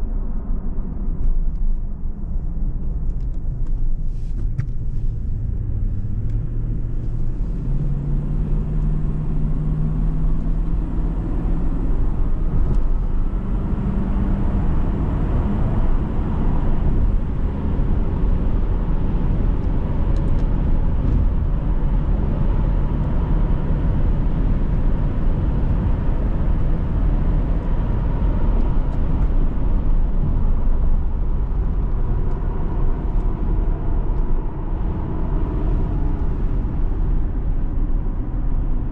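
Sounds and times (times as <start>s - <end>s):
road noise: 0.0s - 38.9s
car engine accelerating: 0.2s - 38.9s.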